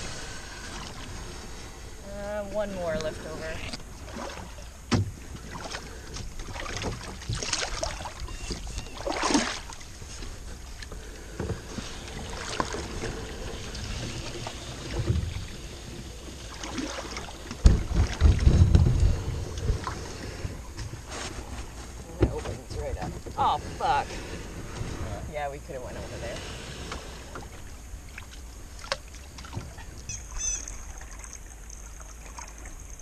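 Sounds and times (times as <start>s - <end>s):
reeds scraping canoe hull: 0.0s - 31.2s
low rumbling: 0.0s - 33.0s.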